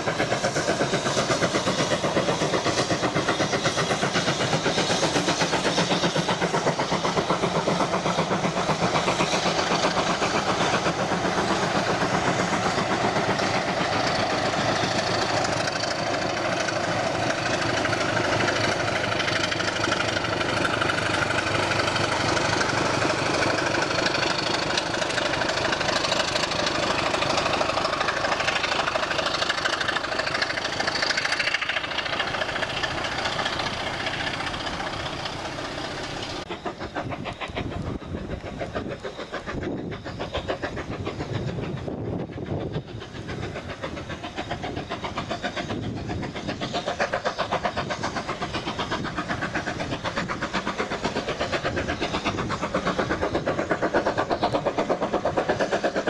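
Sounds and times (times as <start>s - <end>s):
coaches rolling over rails: 0.0s - 56.0s
diesel locomotive running: 0.0s - 56.0s
steam locomotive working: 0.0s - 56.0s.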